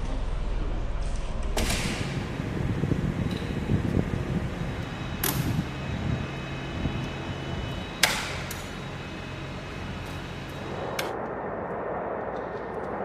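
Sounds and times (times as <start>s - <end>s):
steady low rumble: 0.0s - 13.0s
faint high whine: 0.2s - 13.0s.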